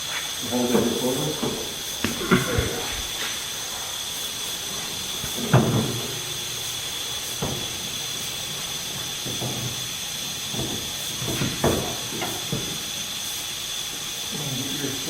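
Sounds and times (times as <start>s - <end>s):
steady hiss with high whine: 0.0s - 15.0s.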